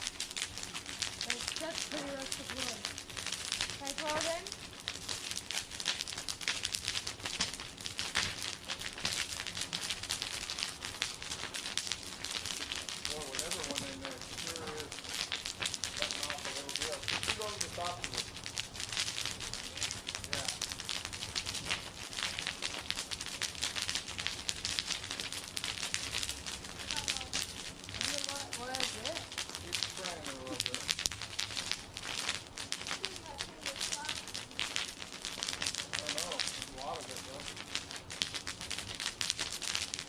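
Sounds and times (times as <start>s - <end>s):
bonfire crackling: 0.0s - 40.0s.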